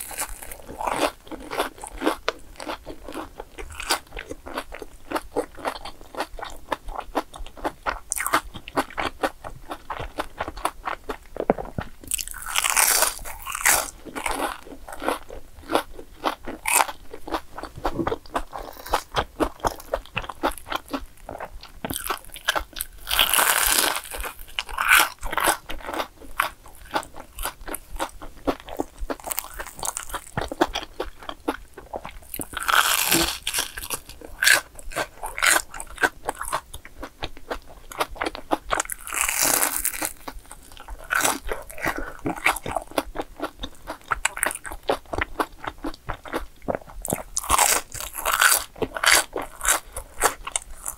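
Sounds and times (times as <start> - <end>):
chewing and crunching fried food: 0.0 - 50.9.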